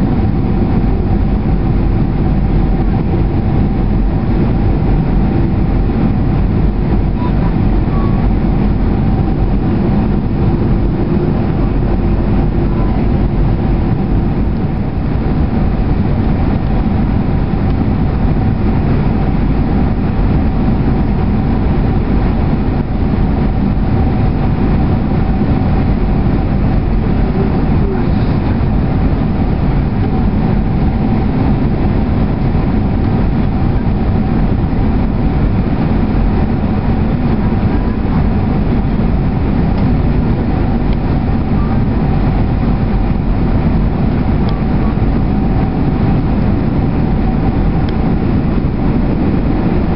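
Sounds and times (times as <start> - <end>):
airflow over wing: 0.0 - 49.9
jet engines roaring: 0.0 - 49.9
steady whine: 0.0 - 49.9.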